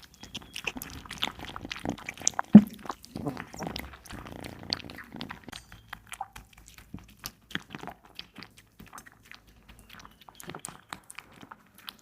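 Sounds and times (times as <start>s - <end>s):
kitten chewing meat: 0.0s - 12.0s.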